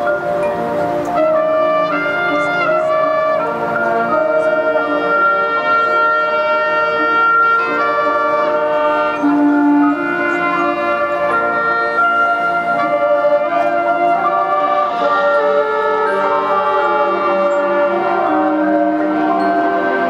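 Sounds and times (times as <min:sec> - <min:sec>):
marching band sustained chords: 0:00.0 - 0:20.0.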